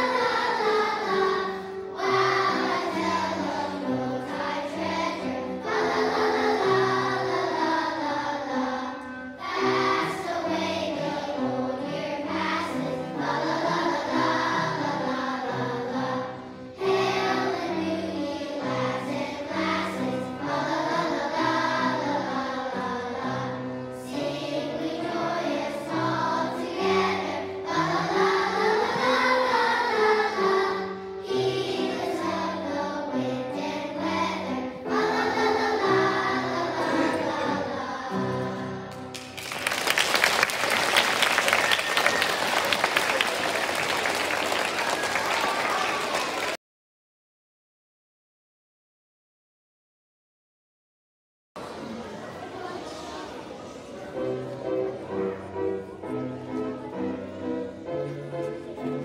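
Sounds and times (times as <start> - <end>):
children's choir singing: 0.0 - 46.6, 51.6 - 59.0.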